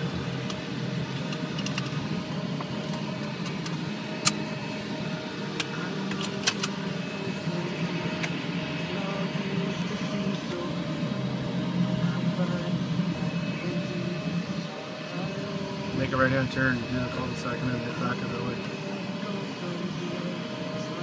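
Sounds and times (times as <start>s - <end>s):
engine and road hum: 0.0s - 21.0s.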